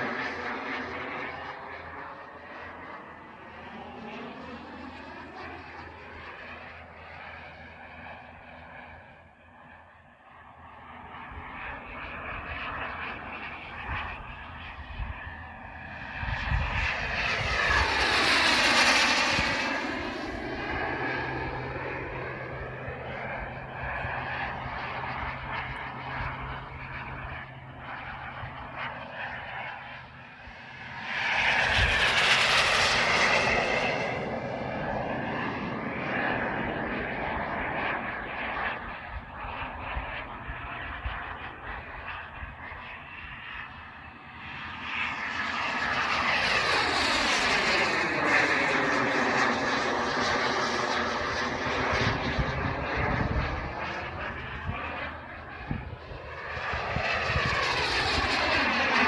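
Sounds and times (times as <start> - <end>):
model jet turbine passing: 0.0 - 59.0.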